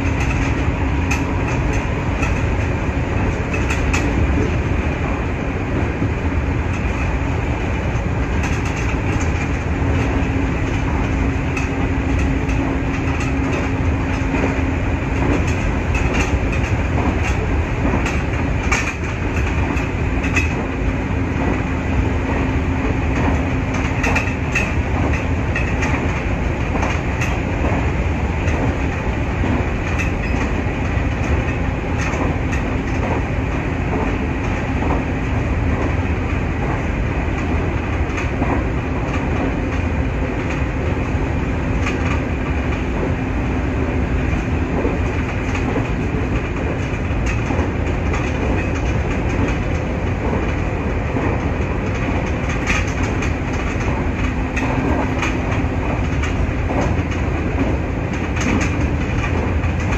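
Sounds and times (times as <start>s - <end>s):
rail-joint clicks: 0.0s - 59.9s
train wheels rumbling on rail: 0.0s - 59.9s.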